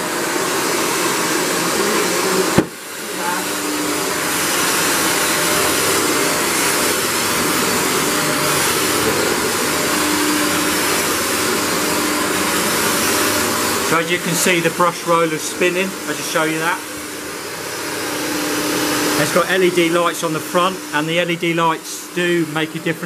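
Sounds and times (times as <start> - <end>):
vacuum cleaner running on carpet: 0.0 - 23.0.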